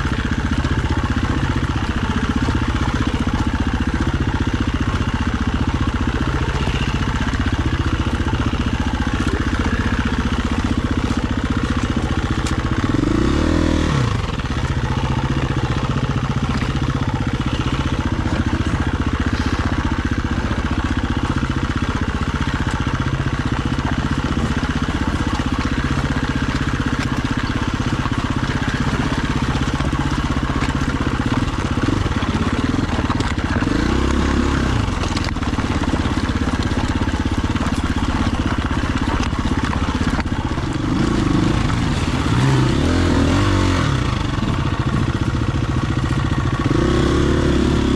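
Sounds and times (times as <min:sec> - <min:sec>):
dirt bike engine: 0:00.0 - 0:47.9
wind and tyre noise: 0:00.0 - 0:47.9.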